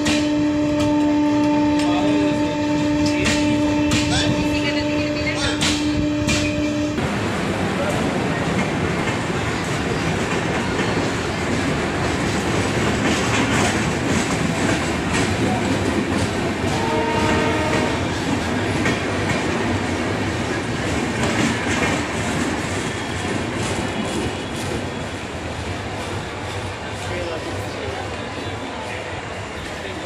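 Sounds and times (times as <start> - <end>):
train wheels clicking over rail joints: 0.0 - 2.2, 2.8 - 4.4, 5.4 - 7.2, 7.8 - 27.2.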